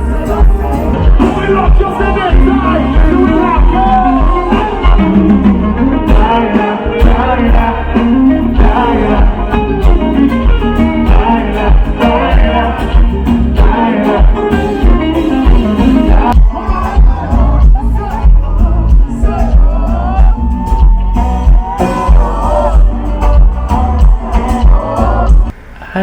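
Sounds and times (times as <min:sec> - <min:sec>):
heavy pulsing bass beat: 0:00.0 - 0:25.5
live band with singer: 0:00.0 - 0:26.0.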